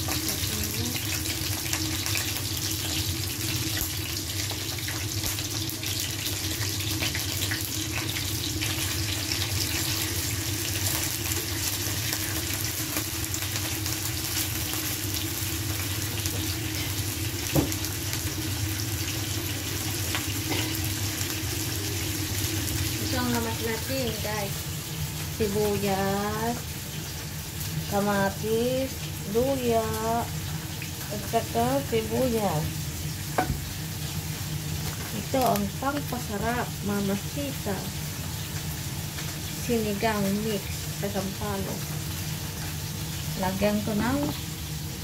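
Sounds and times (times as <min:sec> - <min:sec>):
fish sizzling in hot oil: 0:00.0 - 0:45.0.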